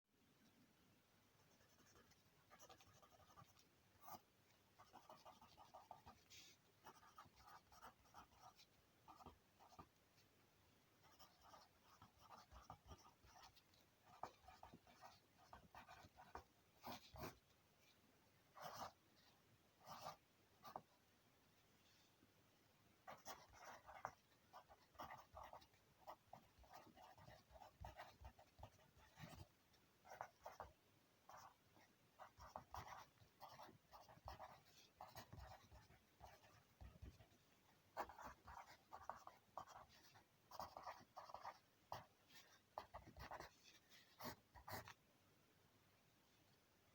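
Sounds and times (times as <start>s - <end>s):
pencil scratching on paper: 1.5s - 9.9s, 11.0s - 17.5s, 18.6s - 20.9s, 23.1s - 30.7s, 31.3s - 45.0s.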